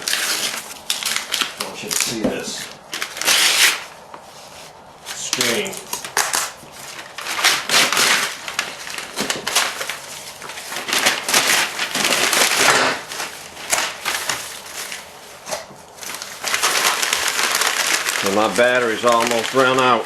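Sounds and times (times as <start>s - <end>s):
protective paper peeling and crackling: 0.0s - 20.0s.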